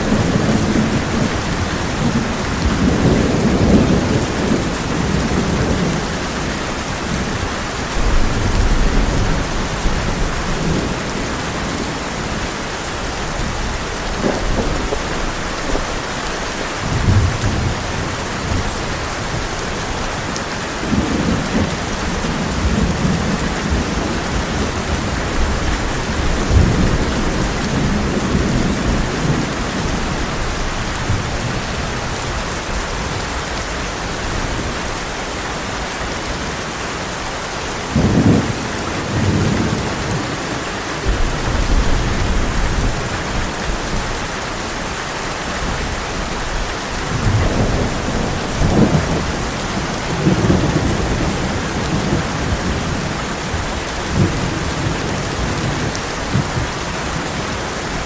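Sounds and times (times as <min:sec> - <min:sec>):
low thunder rumbling: 0:00.0 - 0:33.2, 0:37.9 - 0:40.4, 0:41.0 - 0:44.3, 0:45.5 - 0:58.0
heavy rain on a tin roof: 0:00.0 - 0:58.0.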